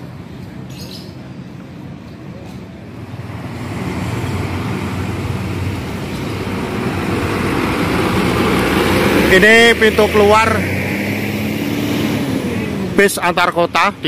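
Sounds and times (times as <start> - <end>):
bus diesel engine rumble: 1.3 - 14.0.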